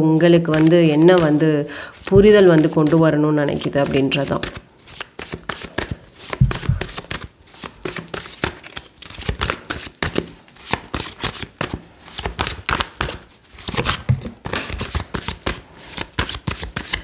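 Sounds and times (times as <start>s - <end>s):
cards being shuffled: 0.2s - 17.0s.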